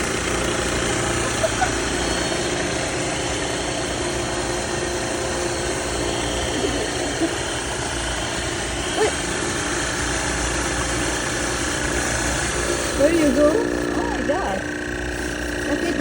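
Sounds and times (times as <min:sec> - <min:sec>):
coffee grinder grinding beans: 0:00.0 - 0:16.0.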